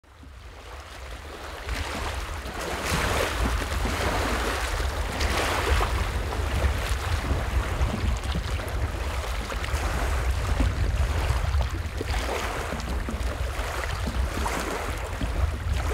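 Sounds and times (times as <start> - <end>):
river waves lapping: 0.1 - 15.9
wind buffeting microphone: 1.1 - 15.9.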